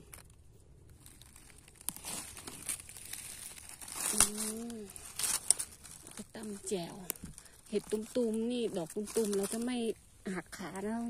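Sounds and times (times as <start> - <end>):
twig snapping: 0.0 - 9.9
dry leaves crackling and rustling: 0.0 - 11.0.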